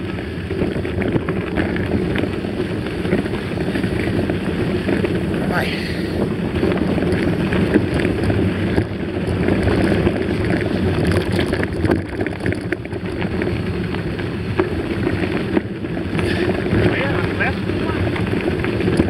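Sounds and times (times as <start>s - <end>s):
bike clicks and rattles: 0.0s - 19.0s
wind buffeting microphone: 0.0s - 19.0s.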